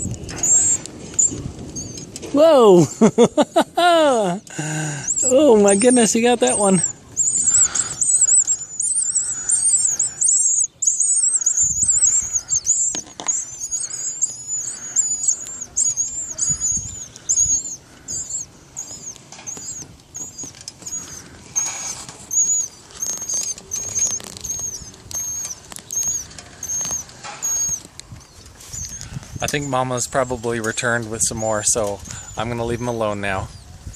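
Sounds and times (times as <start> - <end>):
baby birds chirping: 0.0 - 2.8, 3.9 - 33.9.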